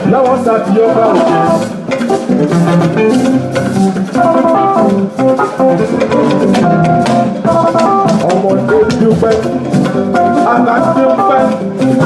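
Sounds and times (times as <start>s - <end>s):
drum kit steady beat: 0.0s - 12.0s
guitar: 0.0s - 12.0s
keyboard: 0.0s - 12.0s.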